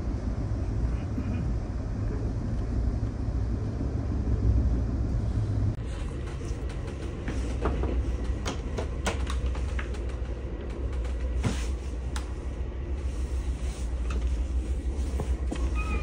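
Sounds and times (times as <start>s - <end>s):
train car rumbling: 0.0s - 16.0s.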